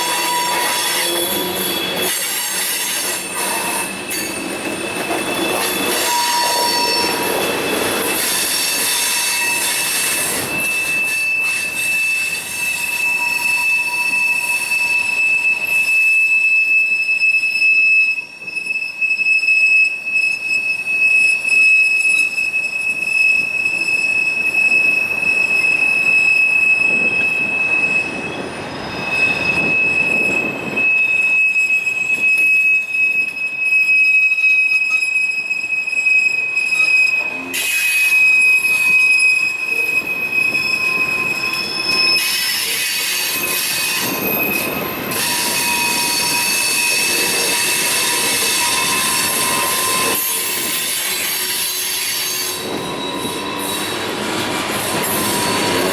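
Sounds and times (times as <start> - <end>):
train wheels squealing: 0.0 - 55.9.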